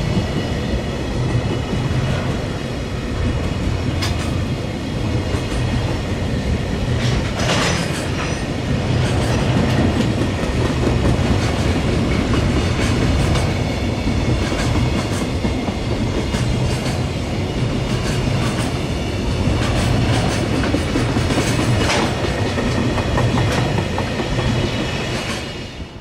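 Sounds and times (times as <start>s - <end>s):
train wheels clattering over rail joints: 3.6s - 6.1s, 6.7s - 25.7s.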